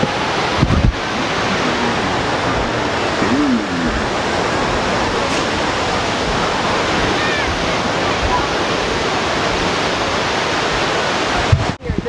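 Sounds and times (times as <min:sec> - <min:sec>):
waterfall roaring: 0:00.0 - 0:11.8
faint voices: 0:00.0 - 0:12.0.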